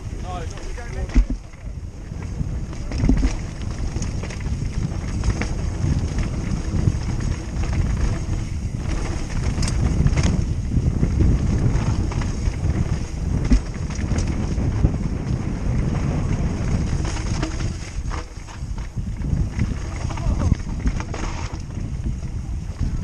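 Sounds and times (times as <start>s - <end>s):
bike clicks and rattles: 0.0s - 23.0s
wind buffeting microphone: 0.0s - 23.0s.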